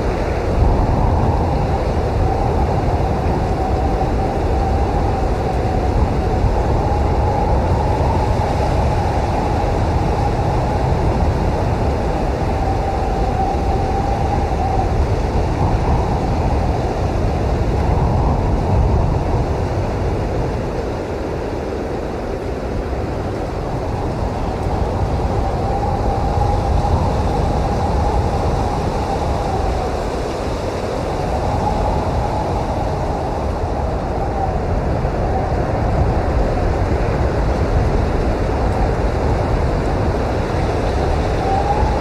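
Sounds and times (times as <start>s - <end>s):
blizzard wind rumble: 0.0s - 42.0s
whistling wind howl: 0.0s - 42.0s.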